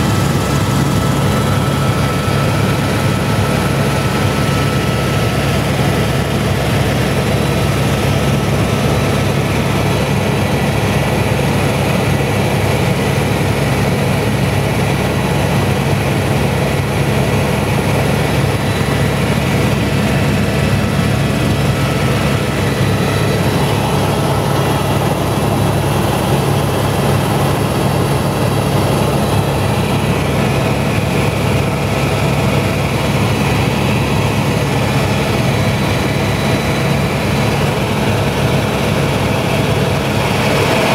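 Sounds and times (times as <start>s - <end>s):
helicopter rotor drone: 0.0s - 40.9s.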